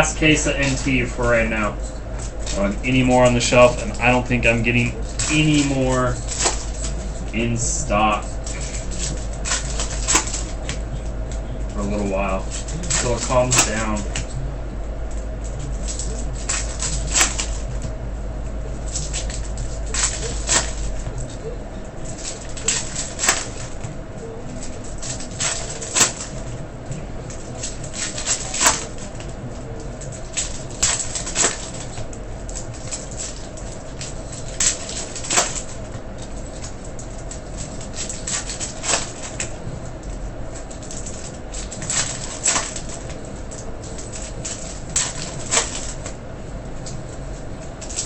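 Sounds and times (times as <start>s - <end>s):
card wrappers crinkling: 0.0s - 48.0s
faint steady hum: 0.0s - 48.0s.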